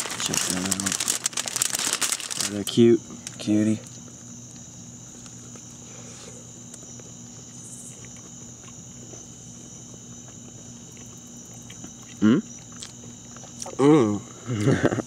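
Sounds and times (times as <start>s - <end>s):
faint low hum: 0.0s - 15.0s
night insects trilling: 0.0s - 15.0s.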